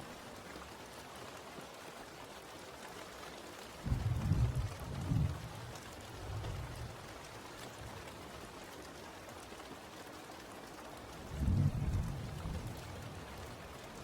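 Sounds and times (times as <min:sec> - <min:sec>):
rain hissing on a surface: 0:00.0 - 0:14.0.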